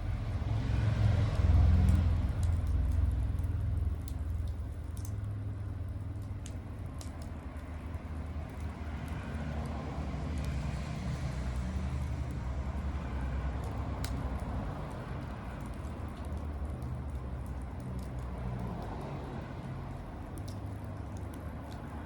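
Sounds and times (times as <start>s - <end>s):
bonfire crackling: 0.0s - 22.0s
fire popping: 0.0s - 22.0s.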